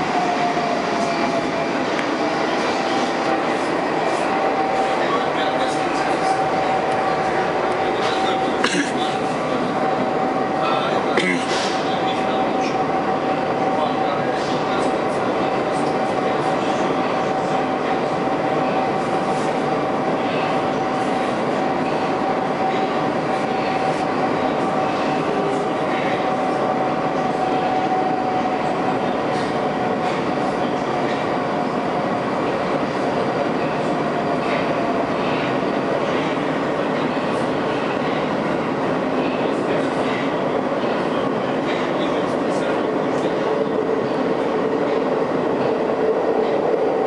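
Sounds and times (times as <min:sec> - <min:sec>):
subway train running on rails: 0:00.0 - 0:47.0.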